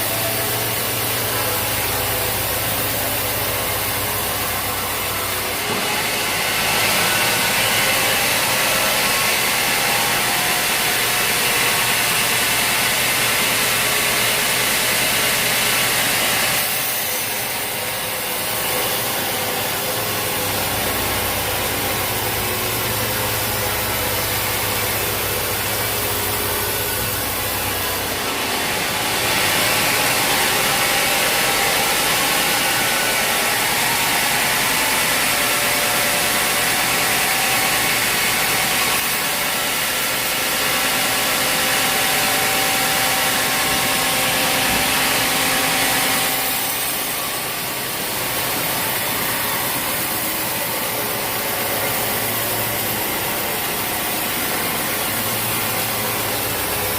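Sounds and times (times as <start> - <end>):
saw cutting through log: 0.0 - 56.9
sawmill engine humming: 0.0 - 56.9.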